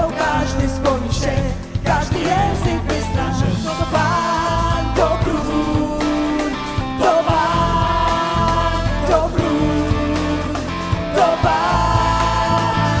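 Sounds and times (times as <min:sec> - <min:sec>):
electric guitar: 0:00.0 - 0:13.0
woman singing: 0:00.0 - 0:13.0.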